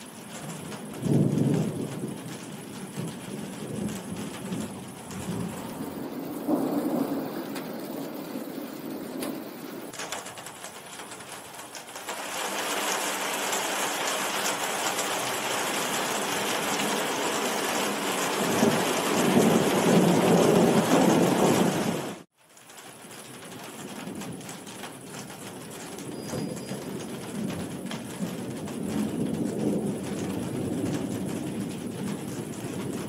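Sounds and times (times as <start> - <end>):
thunder rumbling: 0.0 - 11.6, 12.2 - 22.3, 23.2 - 33.0
heavy rain: 0.0 - 33.0.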